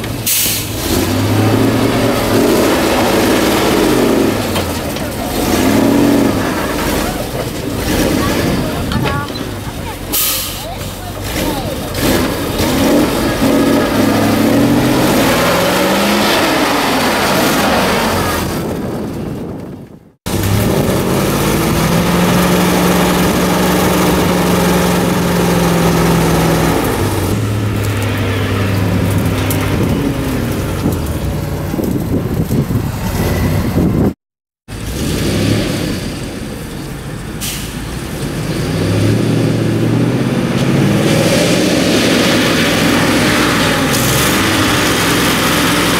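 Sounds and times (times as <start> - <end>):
truck engine revving under load: 0.0 - 45.9.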